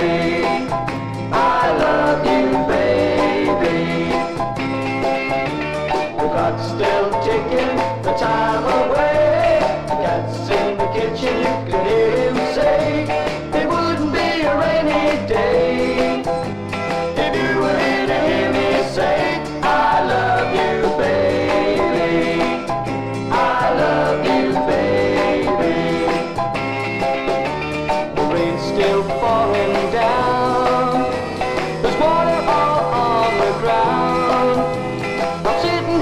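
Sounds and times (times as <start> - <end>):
beat pop record with band: 0.0 - 36.0.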